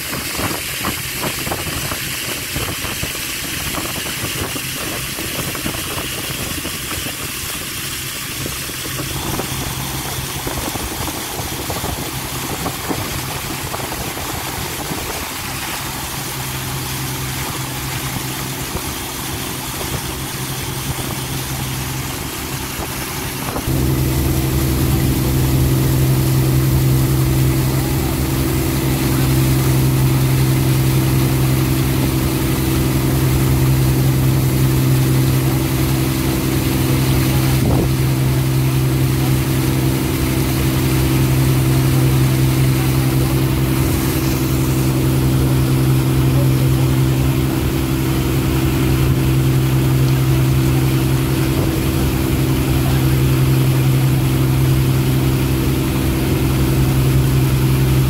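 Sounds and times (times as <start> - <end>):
ferry engine humming: 7.0 - 58.0.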